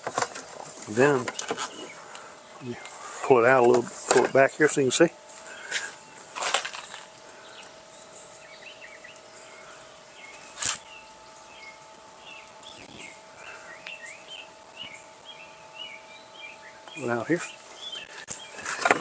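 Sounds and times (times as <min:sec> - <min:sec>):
faint steady hum: 0:00.0 - 0:19.0
birds chirping: 0:00.9 - 0:19.0.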